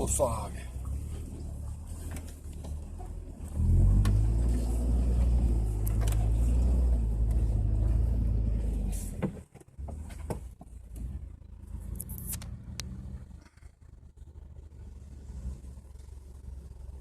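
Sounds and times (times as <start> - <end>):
engine pulling under throttle: 0.0 - 17.0.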